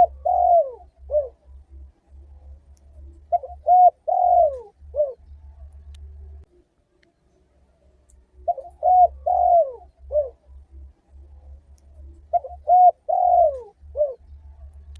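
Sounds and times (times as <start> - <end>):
dove cooing: 0.0 - 5.7, 7.8 - 14.4
faint low hum: 0.0 - 14.9.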